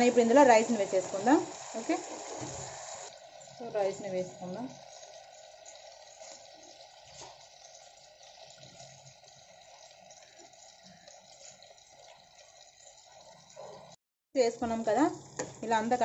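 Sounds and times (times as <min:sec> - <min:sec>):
food sizzling in oil: 0:00.0 - 0:13.8, 0:14.6 - 0:16.0.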